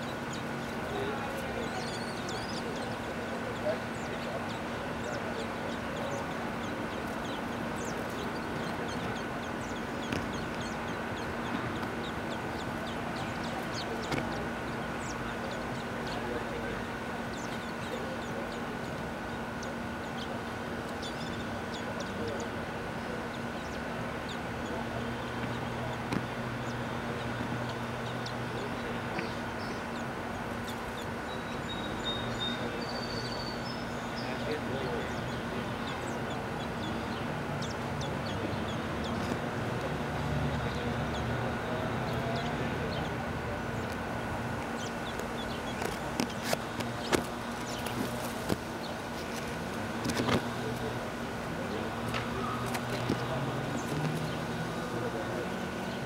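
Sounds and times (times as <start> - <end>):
birds chirping: 0.0 - 56.0
noisy hiss: 0.0 - 56.0
steady hum: 0.0 - 56.0.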